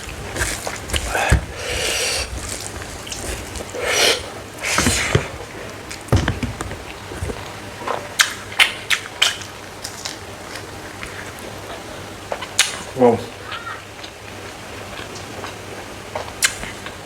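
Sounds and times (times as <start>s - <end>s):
wet chewing: 0.0s - 12.8s, 13.5s - 17.0s.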